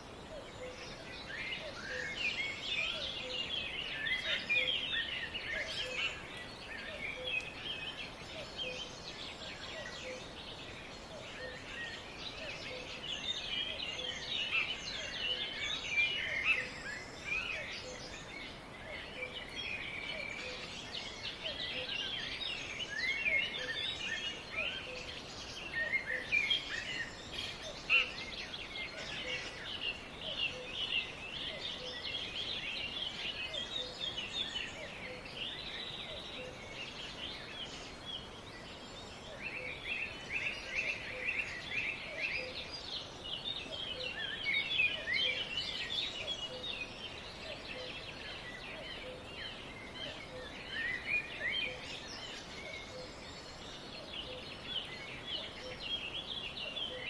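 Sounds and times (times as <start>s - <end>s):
background hiss: 0.0s - 57.0s
small birds chirping: 0.0s - 57.0s.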